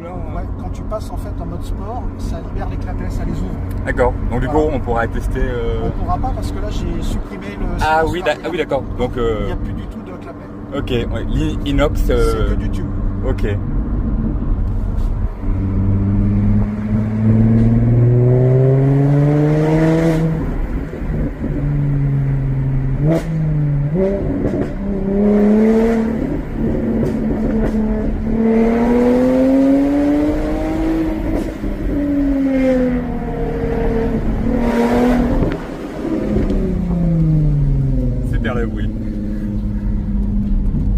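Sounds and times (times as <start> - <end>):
sports car engine accelerating: 0.2 - 40.9.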